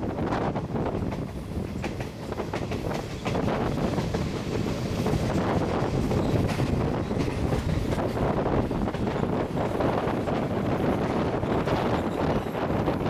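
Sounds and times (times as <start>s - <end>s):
train rumbling on track: 0.0s - 13.0s
wind buffeting microphone: 0.0s - 13.0s
wheels clicking on rails: 0.8s - 13.0s.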